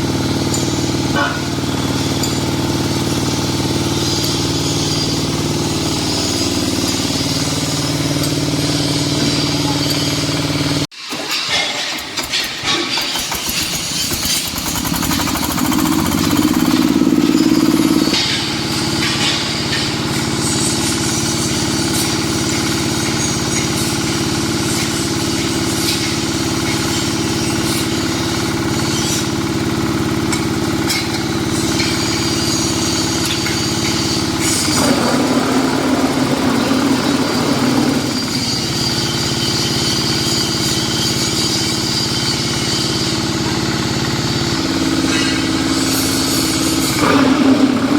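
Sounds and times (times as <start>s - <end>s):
diesel engine running: 0.0s - 10.9s, 13.0s - 47.9s.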